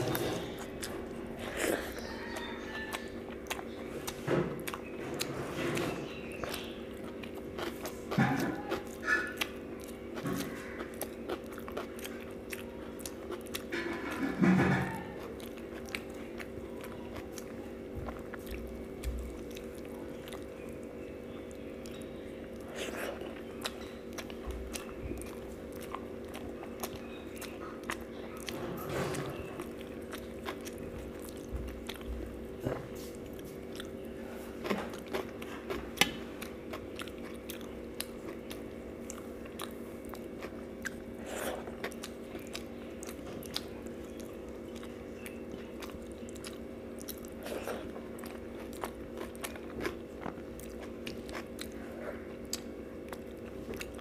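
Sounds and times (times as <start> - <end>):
person chewing food: 0.0 - 54.0
steady low hum: 0.0 - 54.0.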